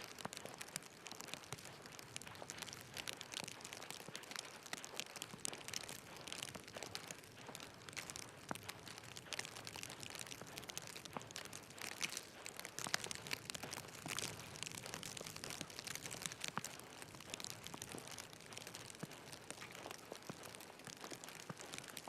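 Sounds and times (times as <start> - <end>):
dense irregular crackling: 0.0 - 22.0.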